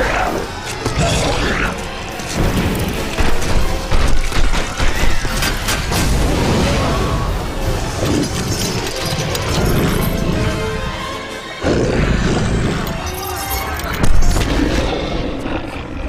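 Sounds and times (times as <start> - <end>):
film music: 0.0 - 16.0.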